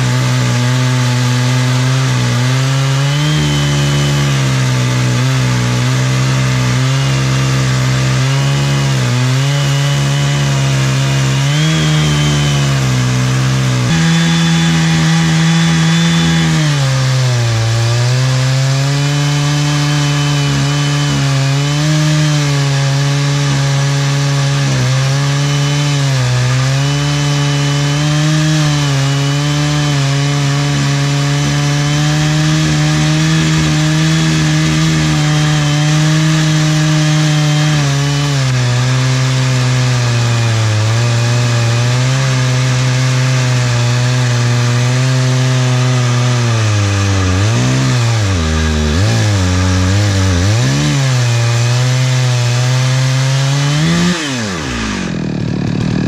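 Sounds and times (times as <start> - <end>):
chainsaw ripping through log: 0.0 - 56.0.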